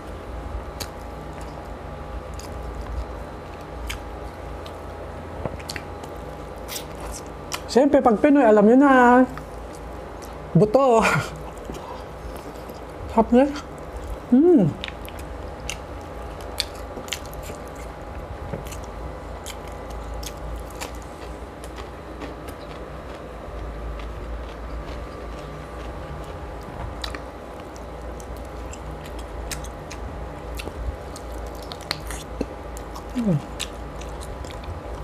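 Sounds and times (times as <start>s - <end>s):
chewing and mouth smacks: 0.8s - 7.7s, 9.3s - 10.5s, 11.3s - 13.0s, 13.6s - 35.0s.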